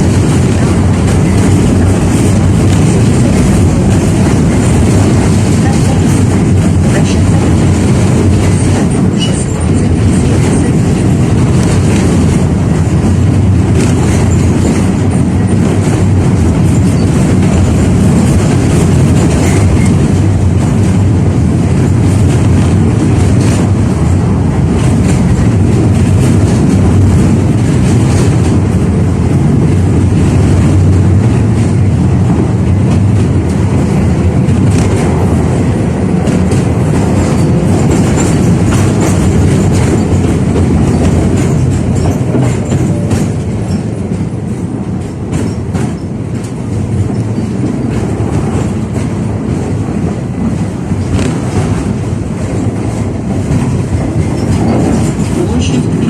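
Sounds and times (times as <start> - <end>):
rail joint clicks: 0.0 - 56.0
tram wheels rumbling on rails: 0.0 - 56.0.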